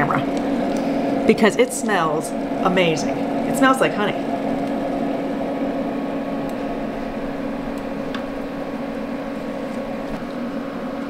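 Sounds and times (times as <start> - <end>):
kitchen appliance humming and whirring: 0.0 - 11.0.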